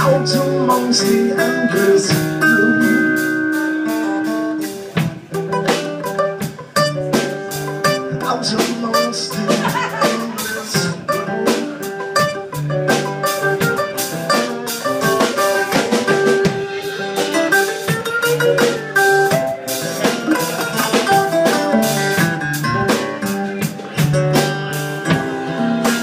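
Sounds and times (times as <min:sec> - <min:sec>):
drum kit hits: 0:00.0 - 0:26.0
live band playing: 0:00.0 - 0:26.0.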